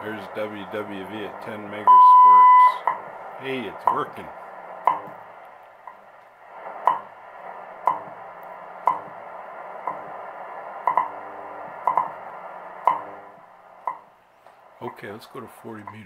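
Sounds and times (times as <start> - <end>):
radio static hiss: 0.0 - 16.0
time signal ticks: 0.6 - 4.2, 4.8 - 7.2, 7.8 - 14.1, 14.8 - 16.0.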